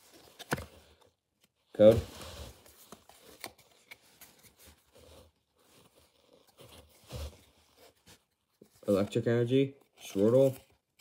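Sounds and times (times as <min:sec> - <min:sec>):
trading cards rustling and clicking: 0:00.0 - 0:11.0.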